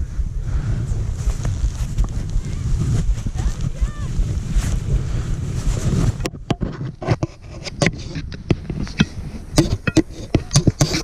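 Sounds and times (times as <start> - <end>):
wind on microphone: 0.0 - 11.0
skis and poles clicking in snow: 0.8 - 11.0.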